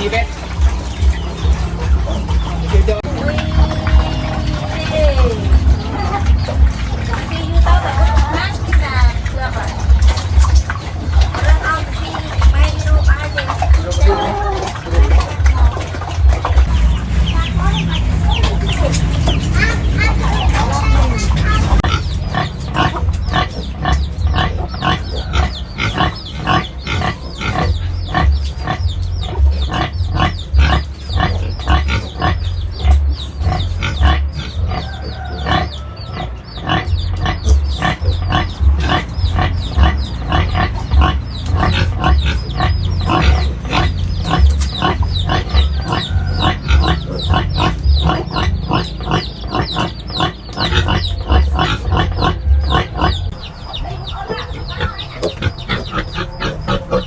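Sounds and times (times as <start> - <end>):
low rumble: 0.0 - 57.0
piglets squealing and grunting: 0.0 - 57.0.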